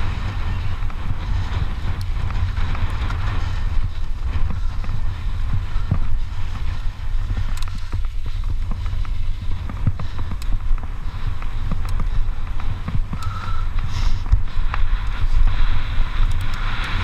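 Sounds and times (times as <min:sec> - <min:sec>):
bike knocks and rattles: 0:00.0 - 0:17.0
bike tyres rolling on dirt: 0:00.0 - 0:17.0
wind buffeting microphone: 0:00.0 - 0:17.0.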